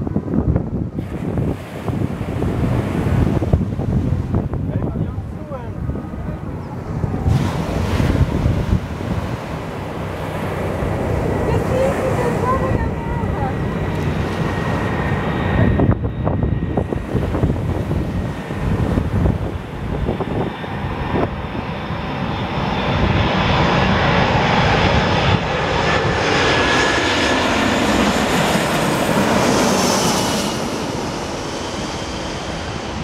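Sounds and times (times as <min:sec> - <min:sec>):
jet engines roaring overhead: 0:00.0 - 0:33.0
wind buffeting microphone: 0:00.0 - 0:33.0.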